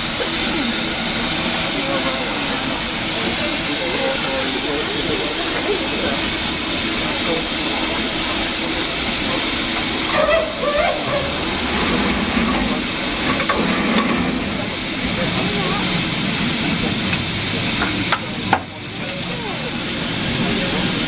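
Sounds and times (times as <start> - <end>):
faint voices: 0.0 - 21.0
steam locomotive hissing: 0.0 - 21.0.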